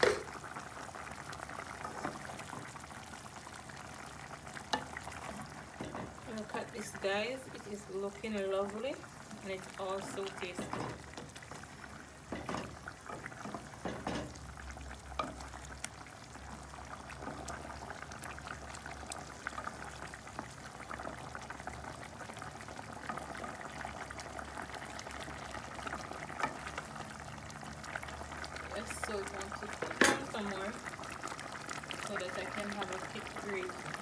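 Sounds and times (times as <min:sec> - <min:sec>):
curry bubbling and popping: 0:00.0 - 0:34.0.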